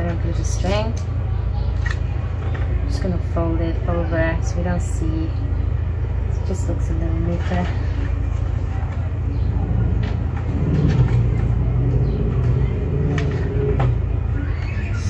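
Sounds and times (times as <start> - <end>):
steady low rumble: 0.0 - 15.0
droning tone: 0.2 - 15.0.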